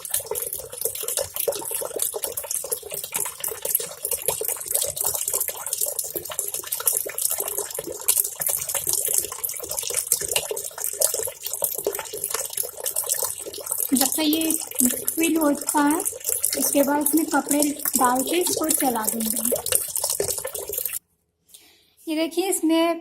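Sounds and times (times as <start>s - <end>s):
water pouring into washing machine tub: 0.0s - 21.0s.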